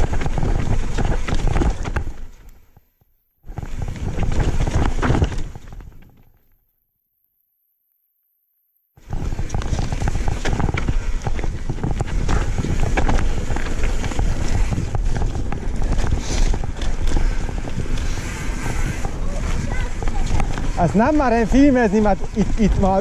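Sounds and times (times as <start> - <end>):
tyres and wind rumble: 0.0 - 2.5, 3.4 - 6.2, 9.0 - 23.0.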